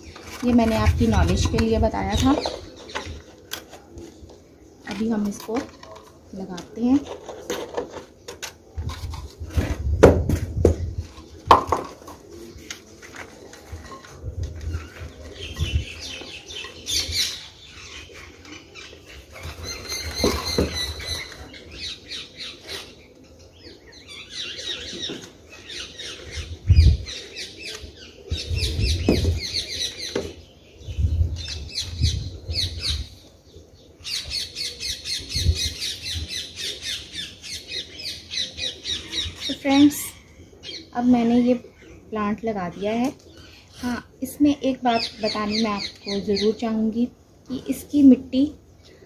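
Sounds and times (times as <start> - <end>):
birds chattering: 0.0 - 49.0.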